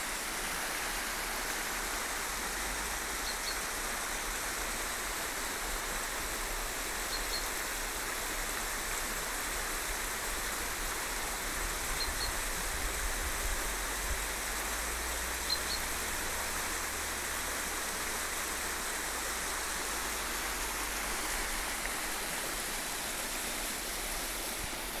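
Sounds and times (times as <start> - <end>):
river rushing over stones: 0.0 - 25.0.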